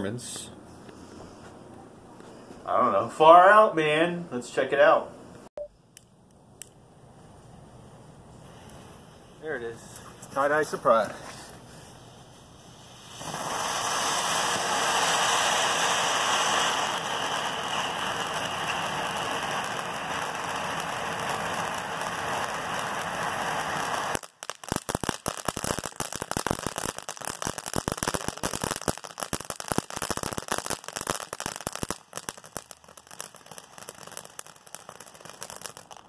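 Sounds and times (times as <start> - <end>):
firework fountain hissing and crackling: 7.1 - 36.0.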